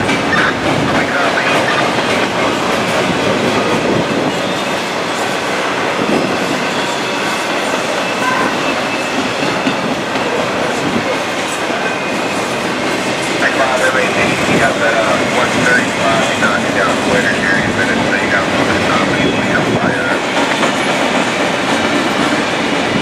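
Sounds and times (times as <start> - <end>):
steel train wheels on rail: 0.0 - 23.0.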